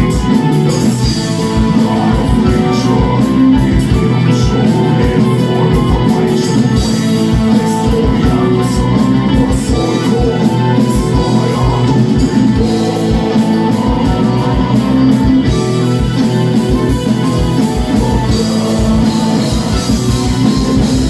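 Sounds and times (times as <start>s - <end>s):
flute melody: 0.0s - 21.0s
live metal band playing: 0.0s - 21.0s.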